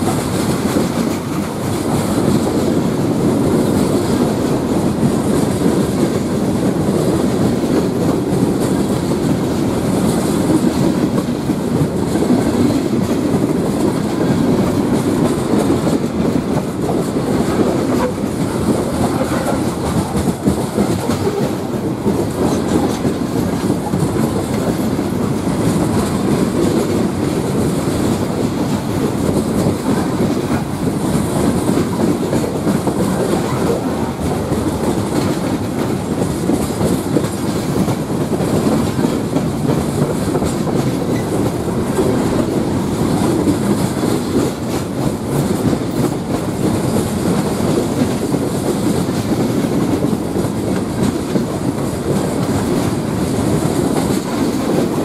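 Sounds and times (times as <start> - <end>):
steel wheels rumbling on rail: 0.0 - 55.0
wheels clicking over rail joints: 3.7 - 55.0.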